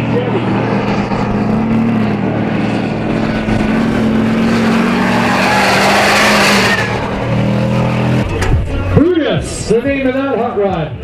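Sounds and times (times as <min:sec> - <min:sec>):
race truck engines at full throttle: 0:00.0 - 0:11.0.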